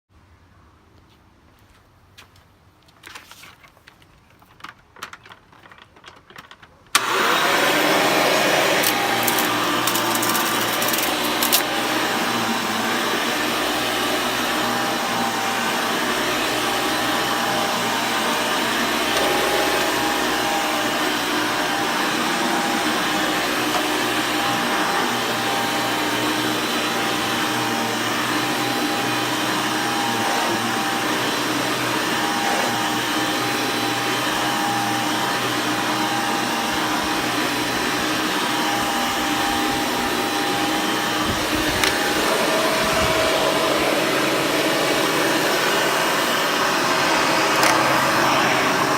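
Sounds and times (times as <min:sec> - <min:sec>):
vacuum cleaner motor whirring: 0:06.9 - 0:48.9.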